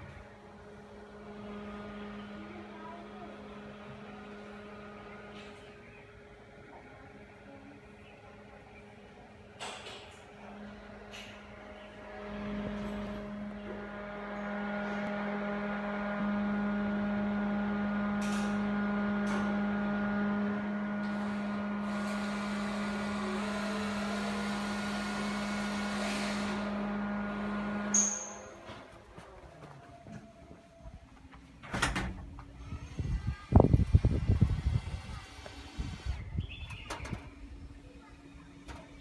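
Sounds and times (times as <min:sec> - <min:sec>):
exhaust fan humming: 0:00.0 - 0:39.0.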